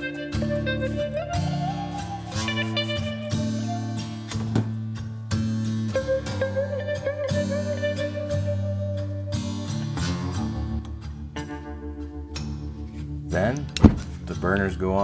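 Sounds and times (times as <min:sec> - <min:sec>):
background music with guitar: 0:00.0 - 0:15.0.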